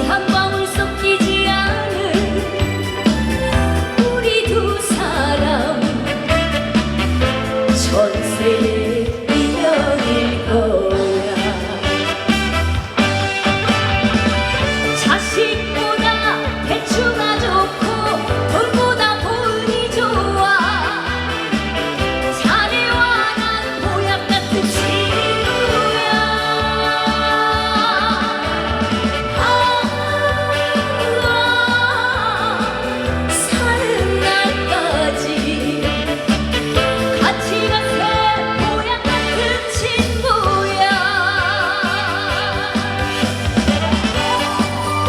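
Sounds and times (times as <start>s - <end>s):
woman singing with vibrato: 0.0s - 6.7s, 7.5s - 13.0s, 14.7s - 45.0s
backing track with pulsing bass: 0.0s - 45.0s.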